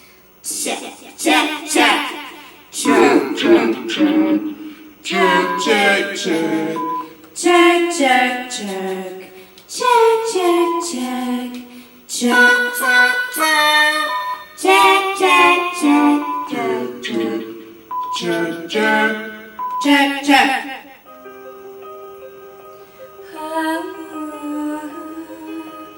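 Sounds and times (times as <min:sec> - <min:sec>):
woman singing in funny voices: 0:00.4 - 0:20.9, 0:23.3 - 0:25.9.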